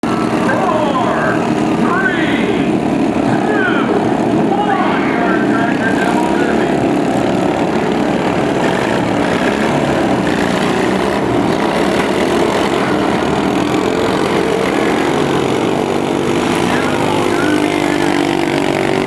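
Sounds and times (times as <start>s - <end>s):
lawn tractor engines running: 0.0s - 19.0s.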